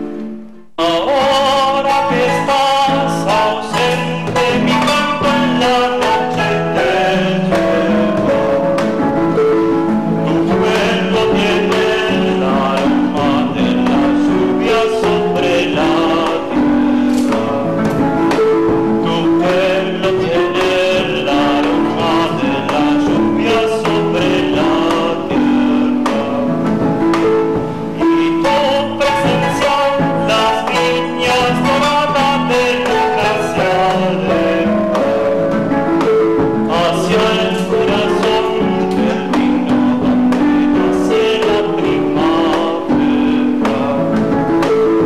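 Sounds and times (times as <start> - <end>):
drum beating steady rhythm: 0.0 - 45.0
harp music: 0.0 - 45.0
man singing: 0.1 - 45.0.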